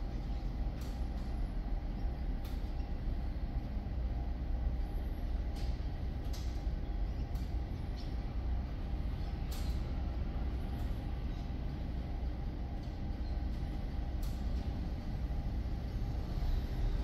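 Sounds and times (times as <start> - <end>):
low machine rumble: 0.0 - 17.0.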